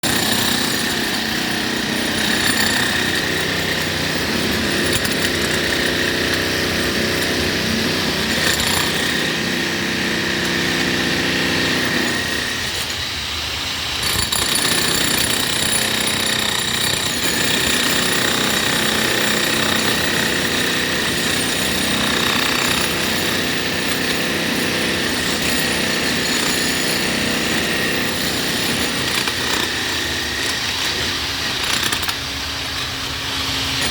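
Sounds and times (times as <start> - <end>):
jackhammer breaking concrete: 0.0 - 13.2, 14.0 - 33.9.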